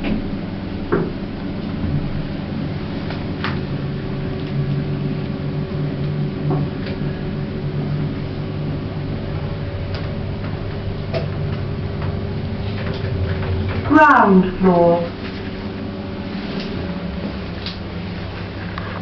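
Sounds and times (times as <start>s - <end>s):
lift machine hum: 0.0s - 19.0s.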